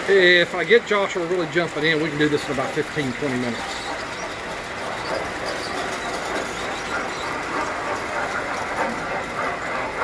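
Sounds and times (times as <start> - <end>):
toy trains rattling on metal track: 0.0 - 10.0.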